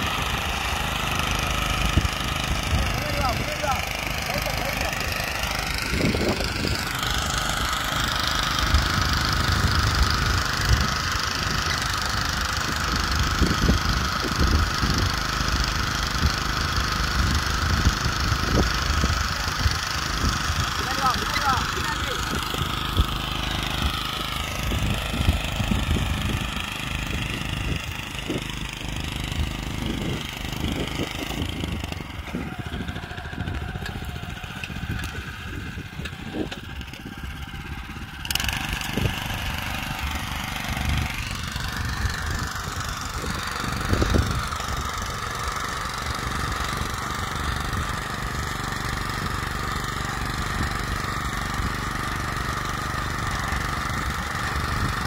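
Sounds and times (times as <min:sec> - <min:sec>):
small petrol engine running: 0:00.0 - 0:55.0
tines churning soil: 0:00.0 - 0:55.0.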